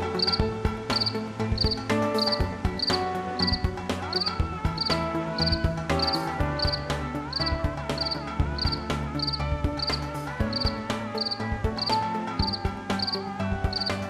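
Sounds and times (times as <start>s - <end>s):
background music: 0.0s - 14.0s
cricket chirping: 0.2s - 14.0s.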